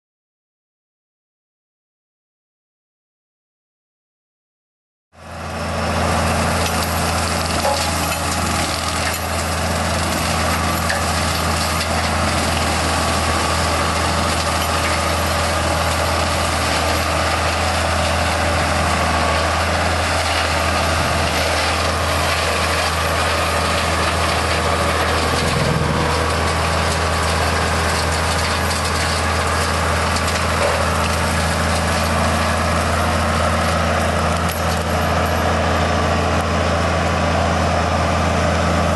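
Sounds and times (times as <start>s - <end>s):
mulcher shredding scrub: 5.2s - 38.9s
tractor engine running under load: 5.2s - 38.9s.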